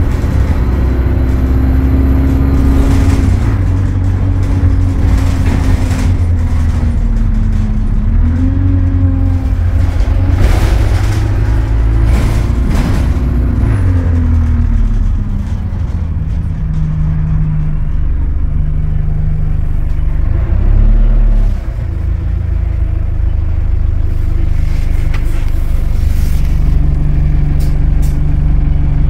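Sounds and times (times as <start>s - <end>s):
bus diesel engine: 0.0s - 29.0s
low engine rumble: 0.0s - 29.0s.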